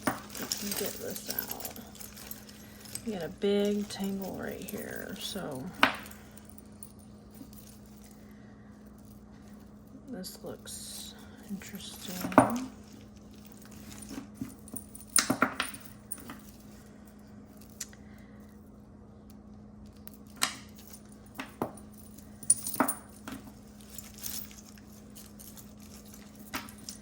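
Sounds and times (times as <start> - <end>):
metal chains clinking: 0.0 - 18.4, 19.8 - 27.0
low hum: 0.0 - 27.0.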